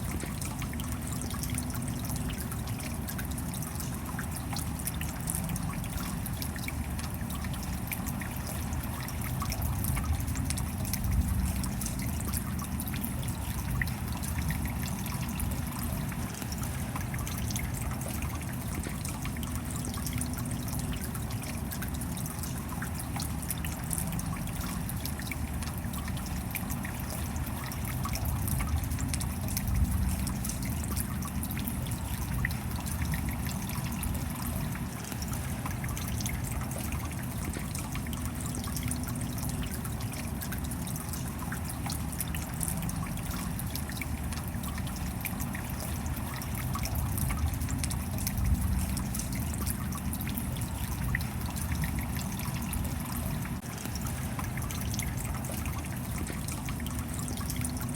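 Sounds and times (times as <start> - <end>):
raindrops ticking: 0.0 - 57.9
steady rain: 0.0 - 57.9.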